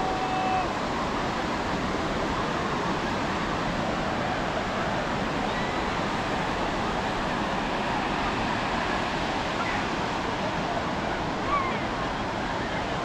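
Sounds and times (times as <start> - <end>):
surf: 0.0 - 13.0.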